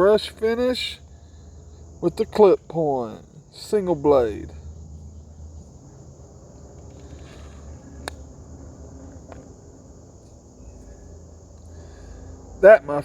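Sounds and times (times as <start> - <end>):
low hum: 0.0 - 12.8
insects trilling: 0.0 - 13.0.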